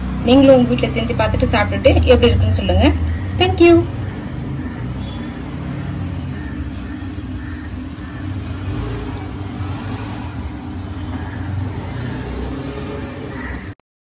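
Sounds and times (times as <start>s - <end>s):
low rumbling background noise: 0.0s - 13.8s.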